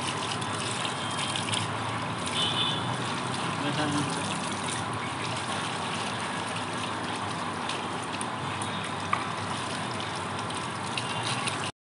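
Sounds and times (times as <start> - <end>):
water rushing over dog's coat: 0.0 - 11.7.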